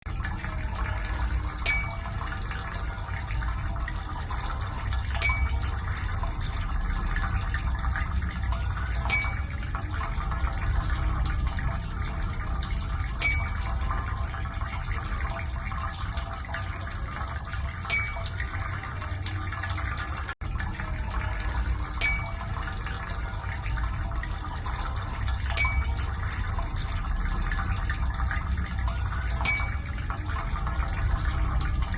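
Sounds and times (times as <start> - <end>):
ear-cleaning equipment gurgling: 0.0 - 31.9.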